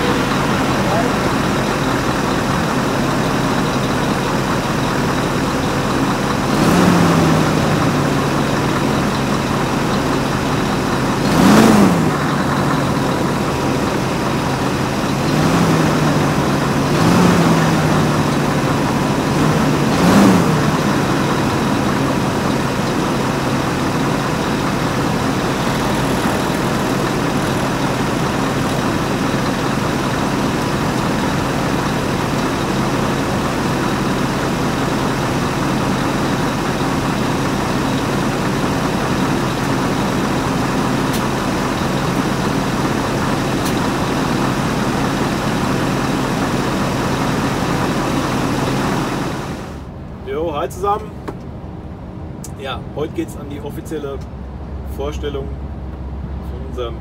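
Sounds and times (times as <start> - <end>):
diesel truck engine idling and revving: 0.0 - 57.0.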